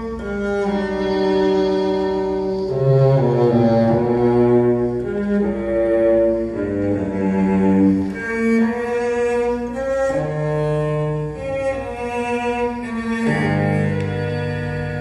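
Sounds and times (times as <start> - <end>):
low bowed strings music: 0.0 - 15.0.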